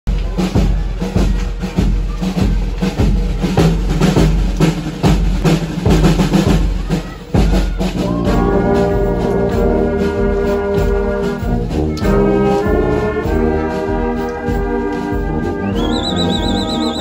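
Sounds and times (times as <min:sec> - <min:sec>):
drums beating a march rhythm: 0:00.0 - 0:17.0.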